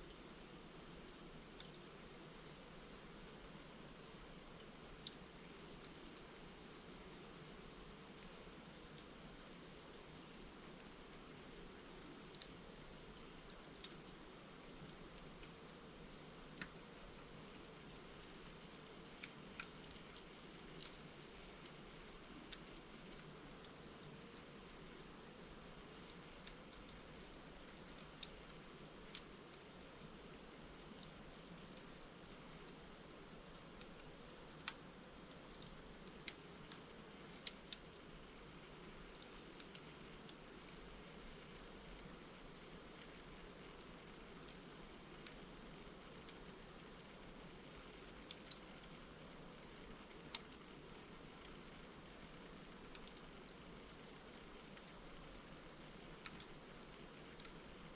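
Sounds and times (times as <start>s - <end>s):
soft steady fire hiss: 0.0s - 57.9s
logs crackling and popping: 0.1s - 3.9s, 4.5s - 57.9s.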